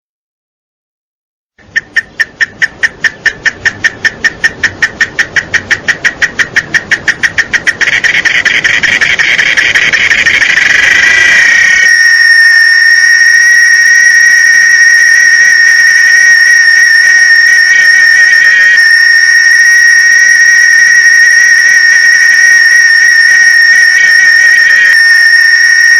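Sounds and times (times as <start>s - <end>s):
cicada singing: 1.6s - 25.9s.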